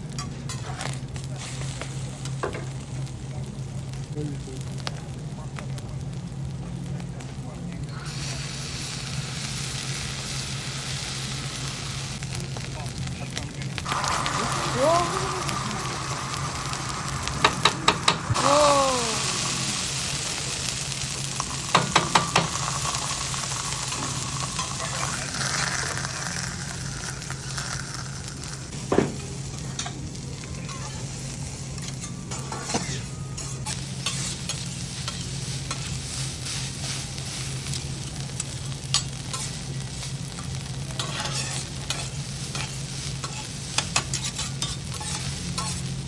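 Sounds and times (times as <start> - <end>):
food sizzling on a griddle: 0.0 - 46.0.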